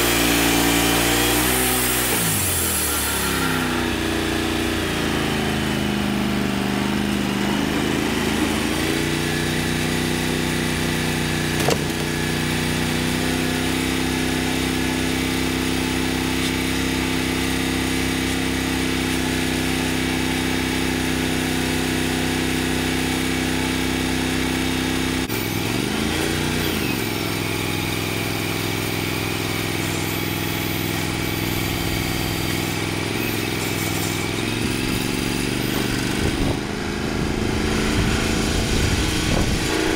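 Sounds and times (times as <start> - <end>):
band saw cutting log: 0.0 - 39.9
sawmill engine running: 0.0 - 39.9.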